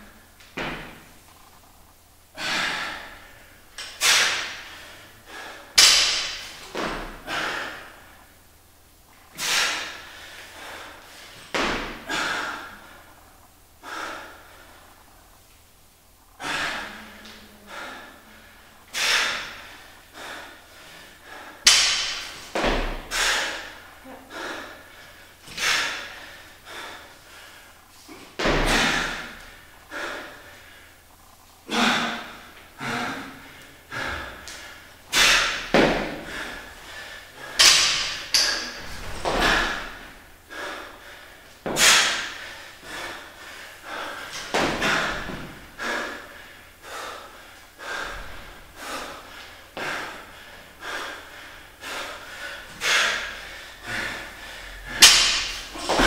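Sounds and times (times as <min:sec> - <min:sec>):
heavy sharp breathing: 0:02.3 - 0:08.6, 0:09.2 - 0:15.4, 0:16.2 - 0:56.0.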